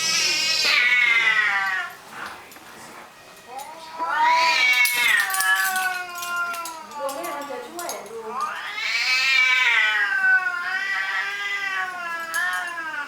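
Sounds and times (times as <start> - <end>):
cats yowling: 0.0 - 2.0, 3.2 - 13.0.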